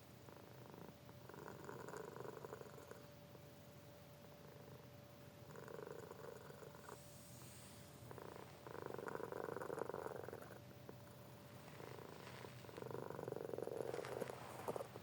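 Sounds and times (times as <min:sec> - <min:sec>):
cat snoring with rattle: 0:00.3 - 0:03.0, 0:05.5 - 0:15.0.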